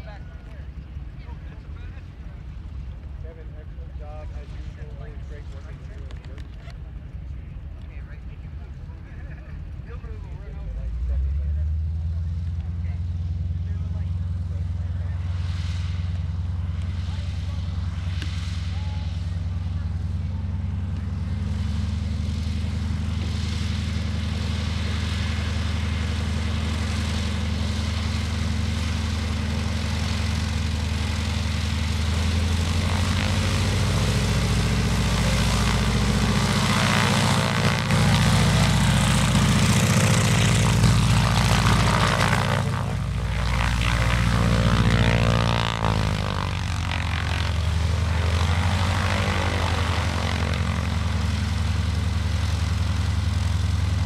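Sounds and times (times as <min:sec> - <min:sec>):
radial aircraft engine running: 0:00.0 - 0:54.0.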